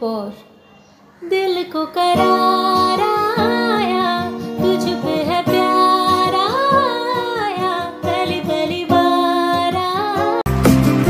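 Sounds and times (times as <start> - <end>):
pop song with slow vocals: 1.3 - 11.0.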